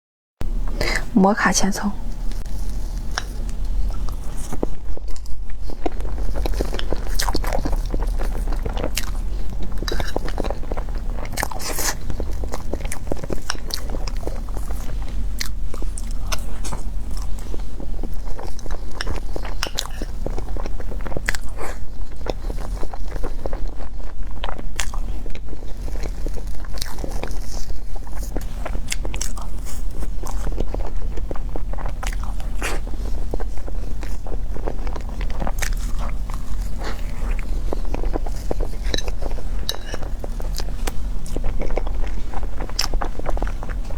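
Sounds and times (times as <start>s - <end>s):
steady low hum: 0.4s - 43.9s
person chewing cake: 2.0s - 43.9s.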